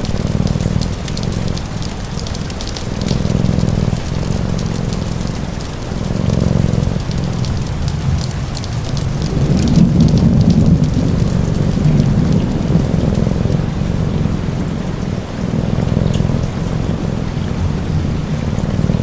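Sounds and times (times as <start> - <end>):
deep low rumble: 0.0 - 19.0
faint crackles: 0.0 - 19.0
steady rain: 0.0 - 19.0.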